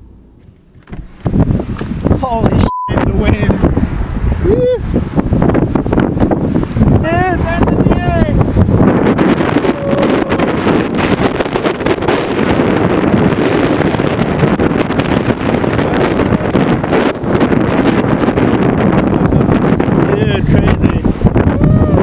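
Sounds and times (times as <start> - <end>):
wind blowing across microphone: 0.4 - 22.0.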